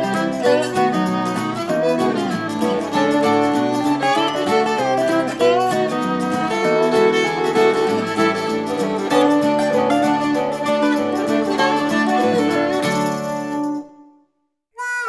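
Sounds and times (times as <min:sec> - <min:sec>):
fiddle: 0:00.0 - 0:13.9
plucked guitar: 0:00.0 - 0:14.1.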